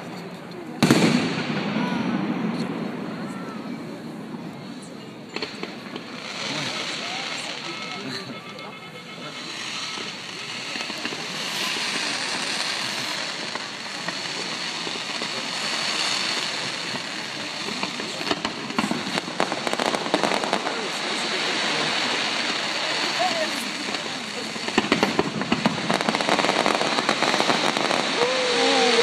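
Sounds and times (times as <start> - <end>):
fireworks going off: 0.0 - 29.0.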